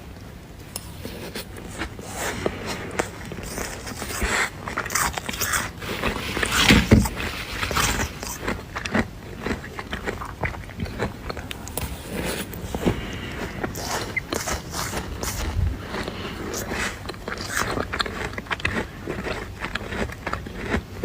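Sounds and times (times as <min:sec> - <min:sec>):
frost being chewed and crunched: 0:00.8 - 0:21.0.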